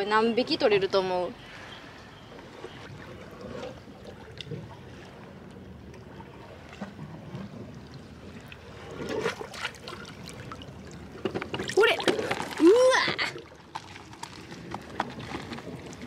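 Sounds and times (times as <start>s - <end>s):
light water splashes: 0.0s - 16.0s.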